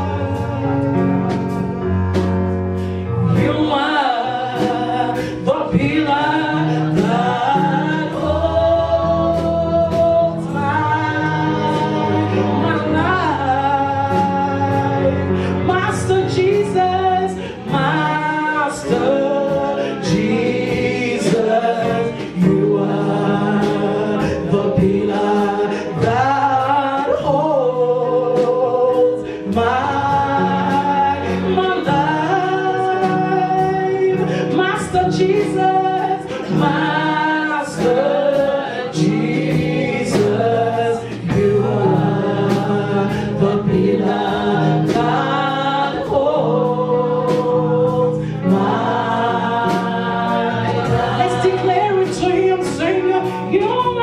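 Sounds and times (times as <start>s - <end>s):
band accompaniment: 0.0s - 54.0s
choir singing: 0.0s - 54.0s
held bass notes: 0.0s - 54.0s.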